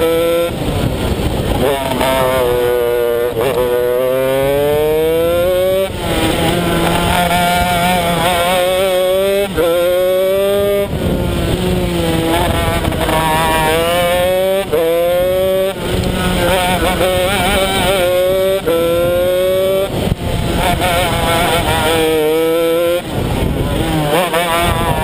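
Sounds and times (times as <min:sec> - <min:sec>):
kart engine accelerating: 0:00.0 - 0:25.0.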